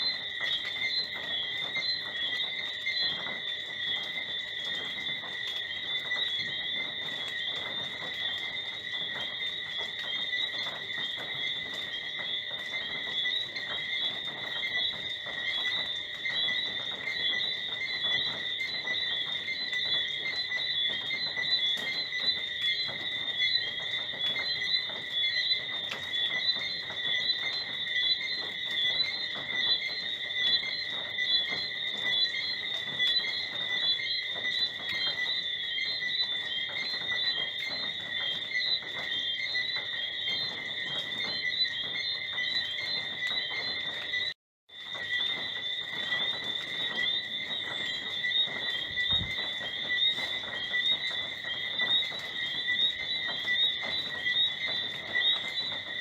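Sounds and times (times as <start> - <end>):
crickets chirping: 0.0 - 56.0
frogs chorusing: 0.0 - 56.0.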